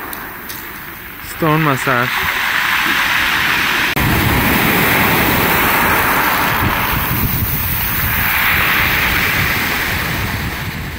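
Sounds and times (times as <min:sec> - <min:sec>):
waves on pebble beach: 0:00.0 - 0:10.9.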